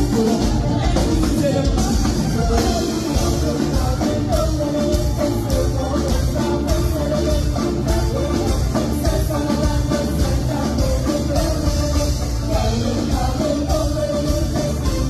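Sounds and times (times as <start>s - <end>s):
drums with a steady beat: 0.0s - 15.0s
electric guitar: 0.0s - 15.0s.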